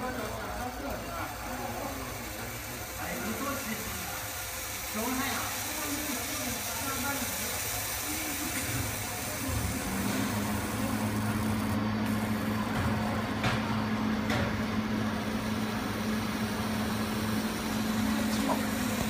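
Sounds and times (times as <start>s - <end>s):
laser marking machine humming: 0.0s - 19.0s.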